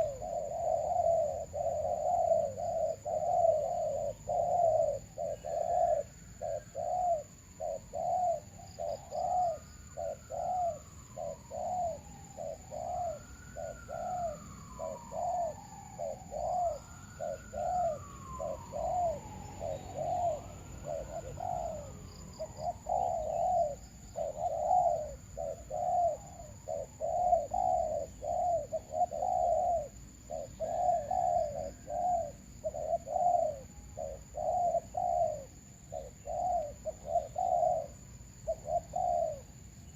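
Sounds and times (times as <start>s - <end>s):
doves cooing: 0.0s - 39.9s
long rising and falling bird calls: 0.0s - 39.9s.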